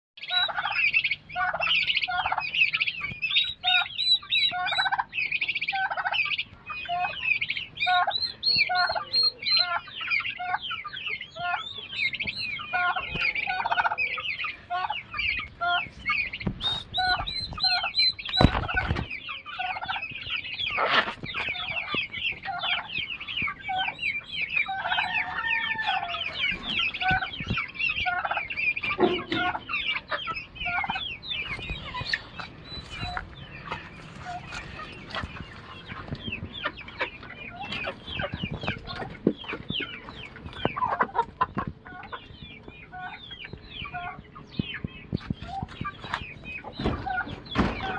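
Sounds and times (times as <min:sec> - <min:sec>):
poults and chicks peeping: 0:00.2 - 0:47.9
turkey clucking: 0:00.2 - 0:47.9.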